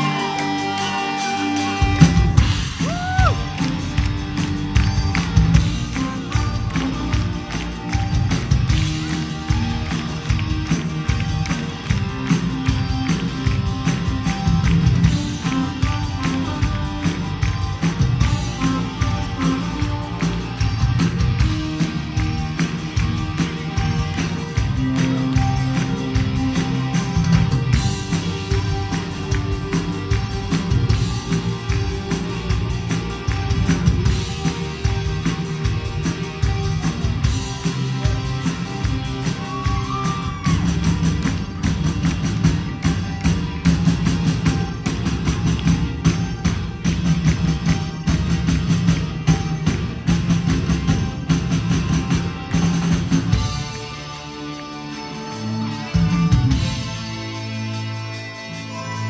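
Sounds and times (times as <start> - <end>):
rock band playing: 0.0 - 59.0
drum beat: 1.8 - 53.8.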